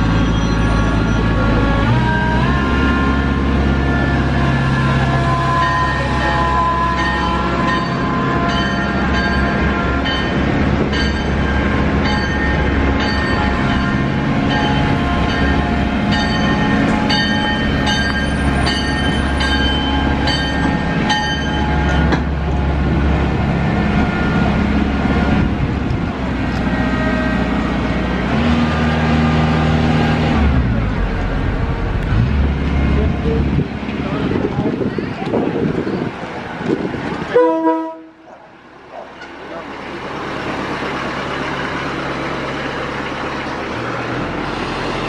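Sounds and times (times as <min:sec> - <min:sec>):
diesel locomotive engine rumbling: 0:00.0 - 0:45.0
train passing: 0:00.0 - 0:45.0.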